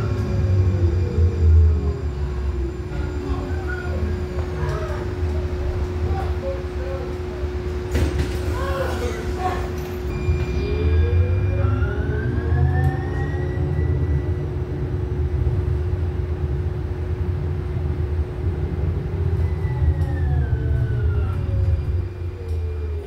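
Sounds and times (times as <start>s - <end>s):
traction motors whining: 0.0s - 15.0s, 19.2s - 23.0s
light rail train running: 0.0s - 23.0s.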